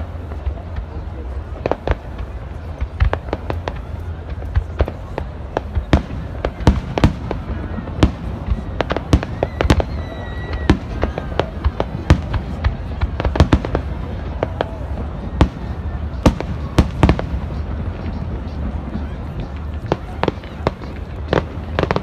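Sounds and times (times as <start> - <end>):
fireworks bursting with sharp bangs: 0.0 - 22.0.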